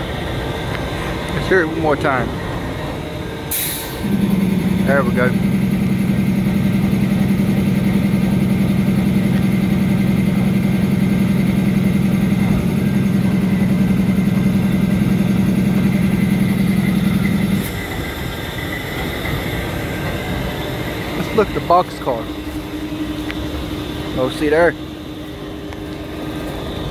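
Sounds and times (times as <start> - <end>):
diesel locomotive engine idling: 0.0 - 26.9.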